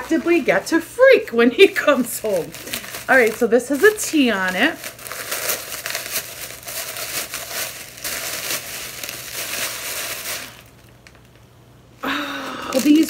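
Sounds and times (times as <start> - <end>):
gift wrapping crinkling: 0.0 - 13.0.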